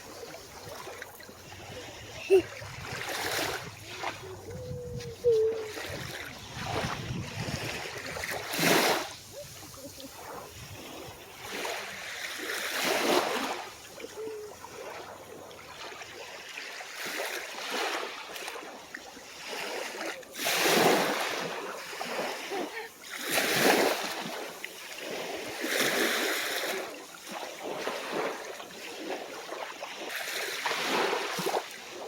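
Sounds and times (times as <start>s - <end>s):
small waves washing on shore: 0.0s - 32.0s.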